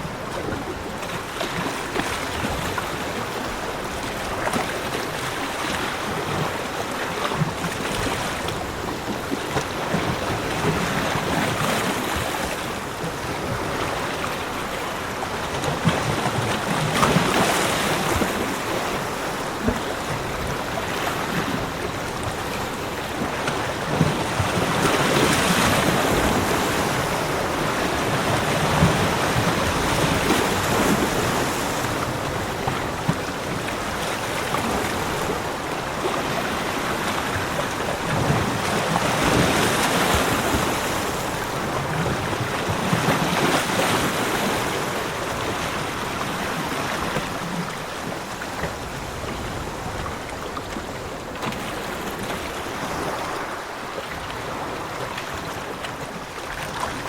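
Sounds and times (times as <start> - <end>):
ocean surf washing onto beach: 0.0 - 57.0.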